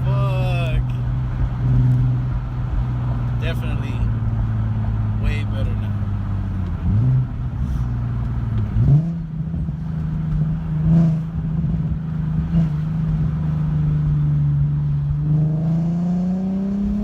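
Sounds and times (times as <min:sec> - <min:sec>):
car engine driving: 0:00.0 - 0:17.0.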